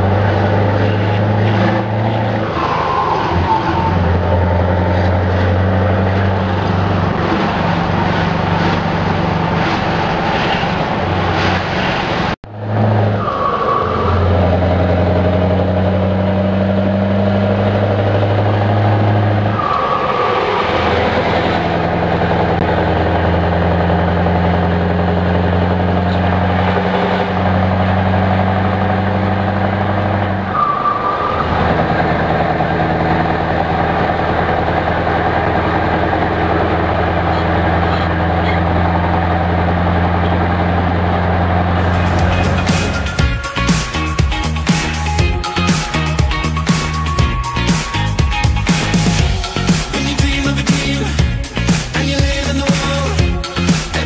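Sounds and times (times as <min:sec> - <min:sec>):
truck diesel engine: 0:00.0 - 0:54.0.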